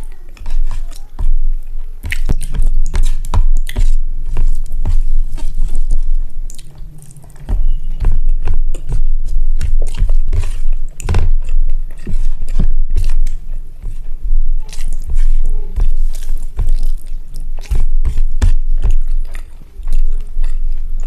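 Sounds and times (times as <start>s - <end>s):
wet chewing: 0.0s - 21.0s.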